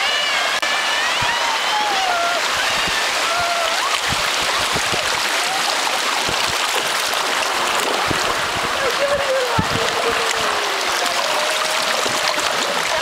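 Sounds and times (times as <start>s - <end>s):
river water rushing and splashing: 0.0s - 13.0s.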